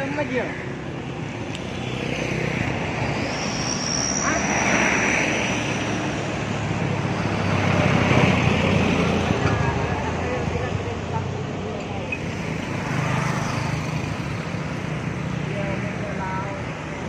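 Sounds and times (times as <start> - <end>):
vehicle engines passing: 0.0 - 17.0.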